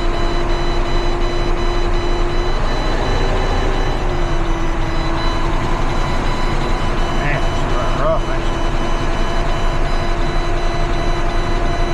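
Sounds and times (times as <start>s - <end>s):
heavy truck rumble: 0.0s - 11.9s
steady whine: 0.0s - 11.9s.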